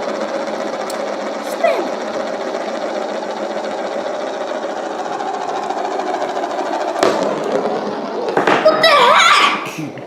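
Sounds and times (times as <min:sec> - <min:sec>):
marble spinner whirring: 0:00.0 - 0:10.0.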